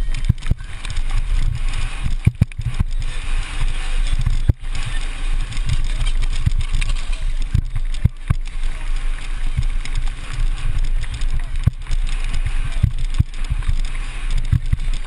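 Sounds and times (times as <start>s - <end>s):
bike knocking over bumps: 0.0s - 15.0s
bike tyres on dirt track: 0.0s - 15.0s
wind rumble and hiss: 0.0s - 15.0s.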